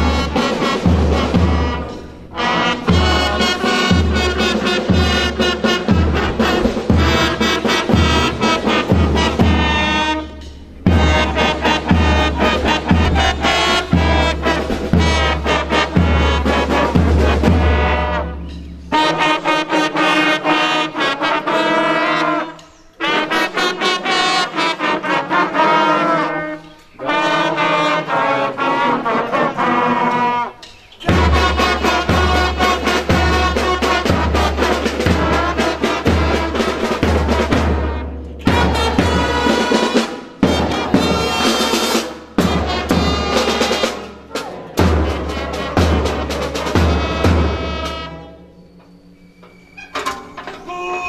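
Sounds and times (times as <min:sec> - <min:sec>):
brass band playing: 0:00.0 - 0:48.6, 0:50.0 - 0:51.0.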